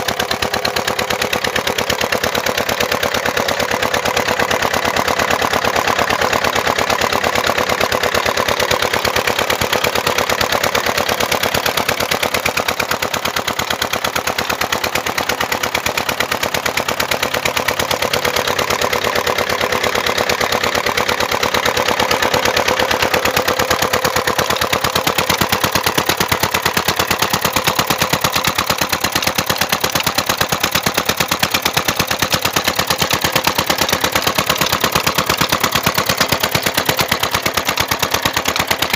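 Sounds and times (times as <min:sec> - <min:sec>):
diesel engine exhaust knocking: 0:00.0 - 0:38.9.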